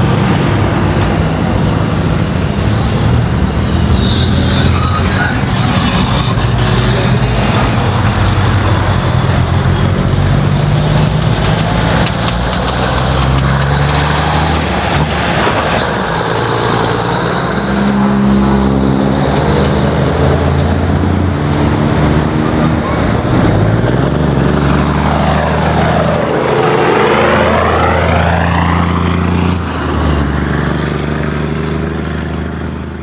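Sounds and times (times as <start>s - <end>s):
second truck accelerating: 0.0s - 33.0s
truck diesel engine: 0.0s - 33.0s.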